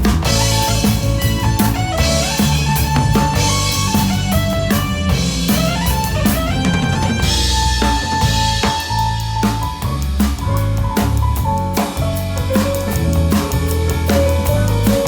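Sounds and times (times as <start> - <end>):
bass guitar: 0.0 - 15.0
drum kit with cymbals: 0.0 - 15.0
guitar: 0.0 - 15.0
lead melody of held notes: 0.0 - 15.0.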